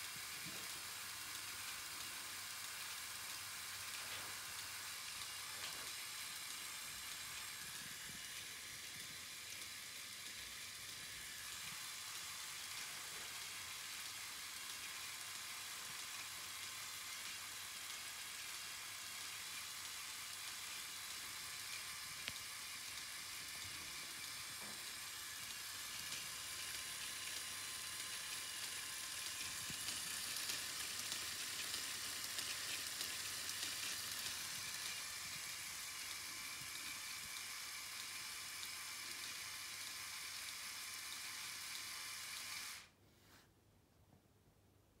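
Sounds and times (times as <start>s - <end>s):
toy electric motors whirring: 0.0s - 43.0s.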